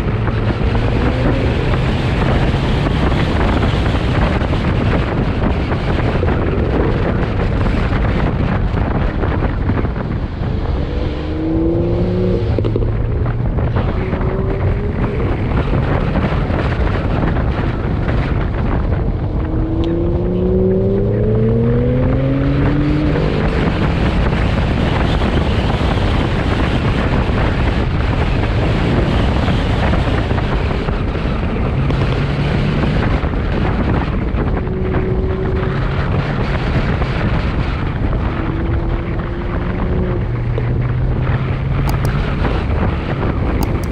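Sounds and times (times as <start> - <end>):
car engine accelerating: 0.0 - 43.9
wind rush over microphone: 0.0 - 43.9.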